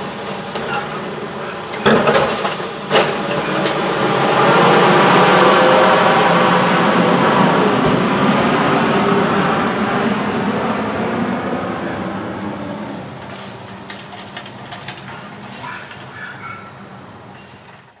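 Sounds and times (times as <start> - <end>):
garbage truck driving away: 0.0 - 18.0.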